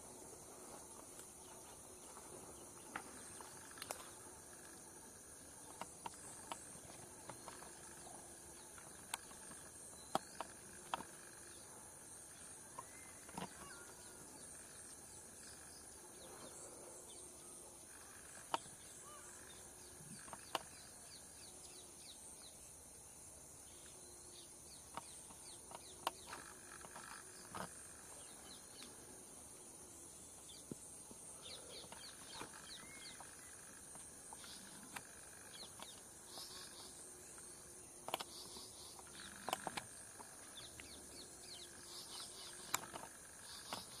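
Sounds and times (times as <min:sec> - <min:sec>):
birds chirping: 0:00.0 - 0:44.0
insect drone: 0:00.0 - 0:44.0.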